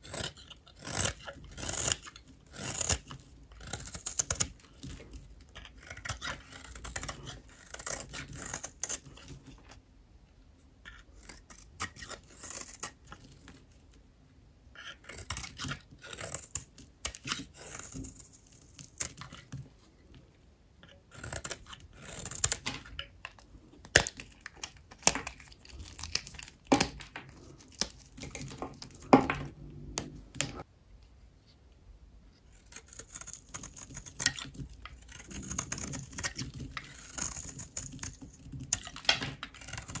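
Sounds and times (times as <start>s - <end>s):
knife cutting soap: 0.0s - 9.8s, 10.7s - 14.0s, 14.7s - 30.7s, 32.4s - 40.0s.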